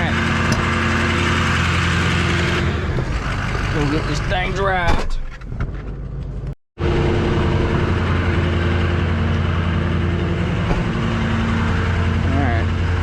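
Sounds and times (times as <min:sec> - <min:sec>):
truck engine idling: 0:00.0 - 0:04.8, 0:06.8 - 0:13.0.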